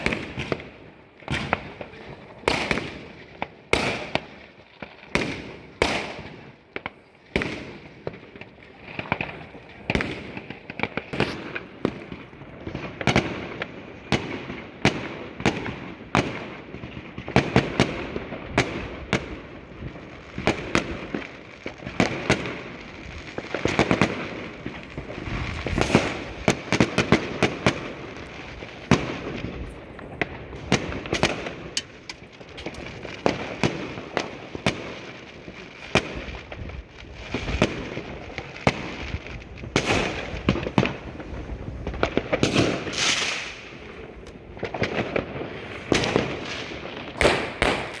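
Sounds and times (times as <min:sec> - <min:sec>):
firecracker crackling: 0:00.0 - 0:48.0
loud fireworks detonations: 0:00.0 - 0:48.0
fireworks banging: 0:05.2 - 0:48.0.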